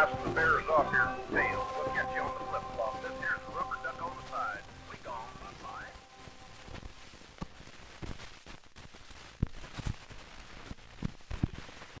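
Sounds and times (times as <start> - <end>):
vinyl clicks and pops: 0.0 - 12.0
vinyl surface hiss: 0.0 - 12.0.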